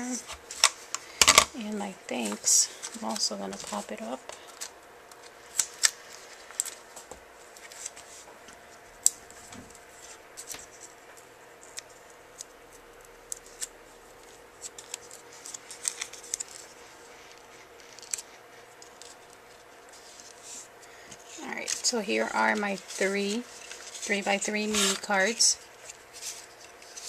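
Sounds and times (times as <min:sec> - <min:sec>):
faint steady hum: 0:00.0 - 0:27.0
paper crinkling and clicking: 0:02.1 - 0:20.4, 0:21.1 - 0:27.0.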